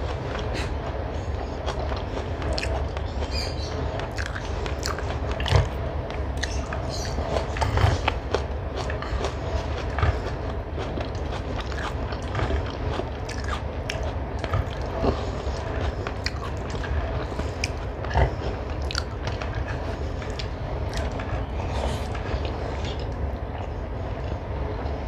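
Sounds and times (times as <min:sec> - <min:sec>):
close chewing and wet mouth sounds: 0:00.0 - 0:25.0
low steady hum: 0:00.0 - 0:25.0.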